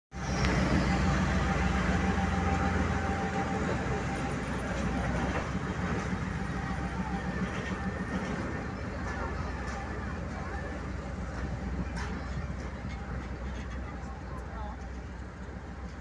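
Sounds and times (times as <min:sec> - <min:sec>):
diesel locomotive engine rumble: 0:00.1 - 0:16.0.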